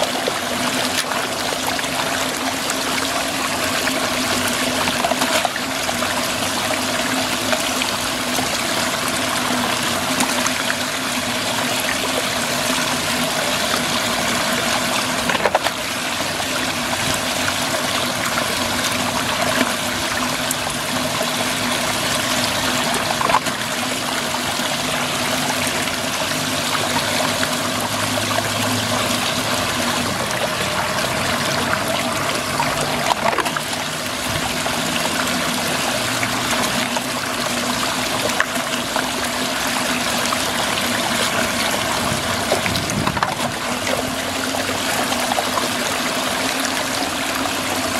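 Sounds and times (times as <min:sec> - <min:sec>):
water swirling down drain: 0:00.0 - 0:47.9.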